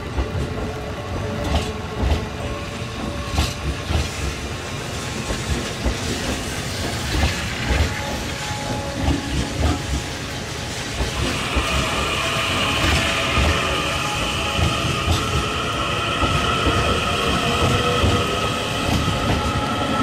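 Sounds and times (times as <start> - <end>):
train cars rushing past: 0.0 - 20.0.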